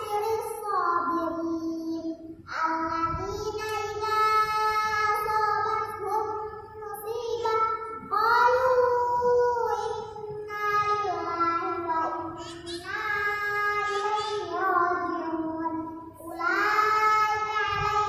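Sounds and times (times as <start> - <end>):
girl chanting melodic recitation: 0.0 - 18.0.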